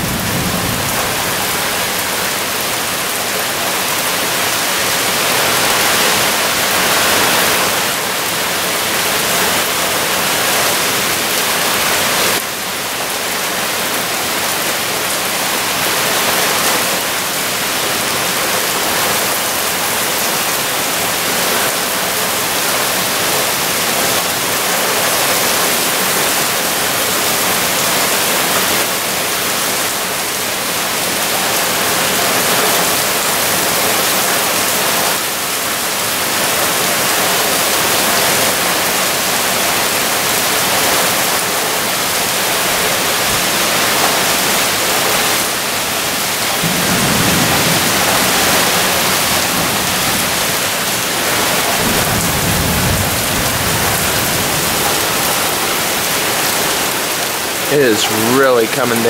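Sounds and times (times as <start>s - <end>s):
heavy rain splashing: 0.0s - 59.0s.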